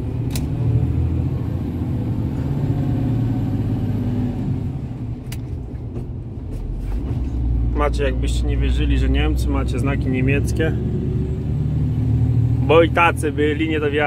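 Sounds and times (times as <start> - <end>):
truck diesel engine pulling uphill: 0.0 - 14.0.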